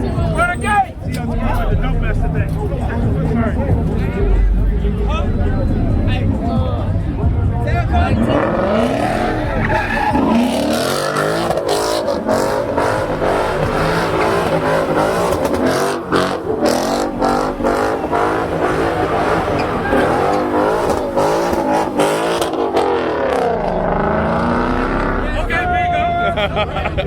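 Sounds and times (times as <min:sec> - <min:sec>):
car engine revving hard: 0:01.2 - 0:25.6.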